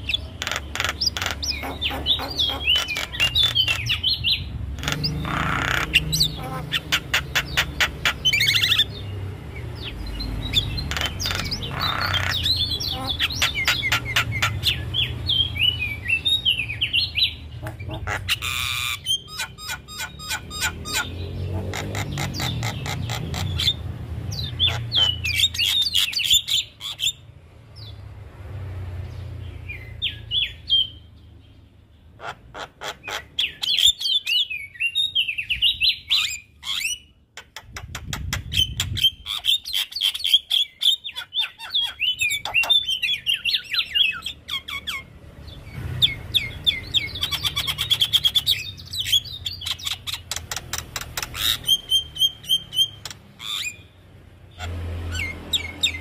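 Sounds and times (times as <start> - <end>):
myna bird singing: 0.0 - 28.1, 28.8 - 56.0.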